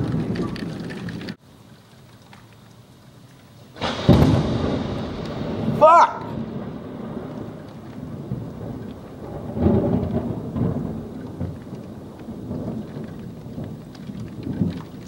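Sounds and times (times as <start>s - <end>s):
thunder rumbling: 0.0s - 2.0s, 2.6s - 15.0s
heavy rain: 0.0s - 15.0s.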